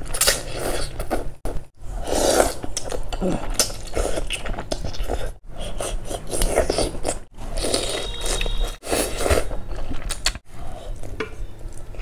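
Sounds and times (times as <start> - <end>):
chewing and biting food: 2.2 - 12.0.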